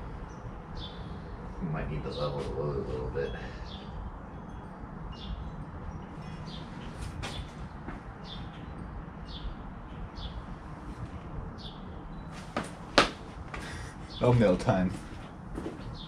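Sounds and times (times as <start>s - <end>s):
bird chirping: 0.0s - 15.2s.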